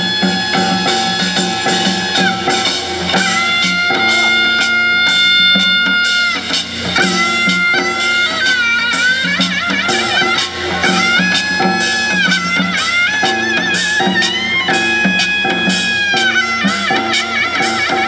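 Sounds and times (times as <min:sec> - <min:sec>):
reedy wind instrument: 0:00.0 - 0:18.0
steady drum beat: 0:00.0 - 0:18.0.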